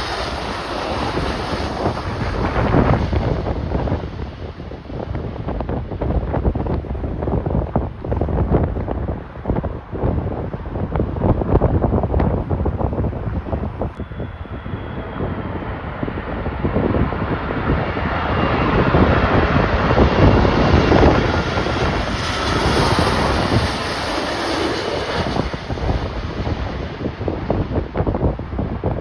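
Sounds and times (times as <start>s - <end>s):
jet engines passing: 0.0s - 29.0s
wind buffeting microphone: 0.0s - 29.0s.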